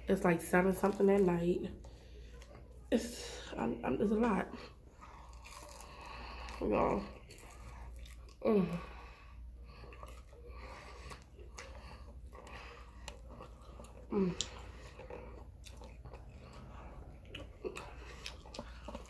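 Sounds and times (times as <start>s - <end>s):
chewing and crunching food: 0.0s - 19.0s.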